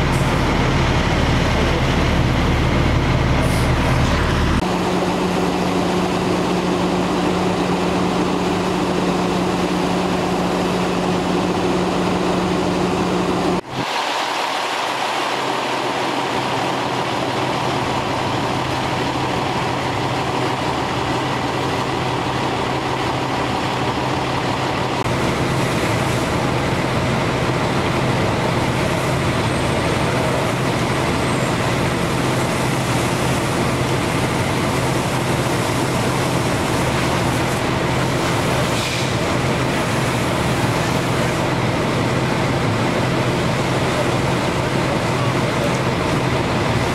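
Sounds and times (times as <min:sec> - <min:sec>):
fire truck engine and pump humming: 0:00.0 - 0:46.9.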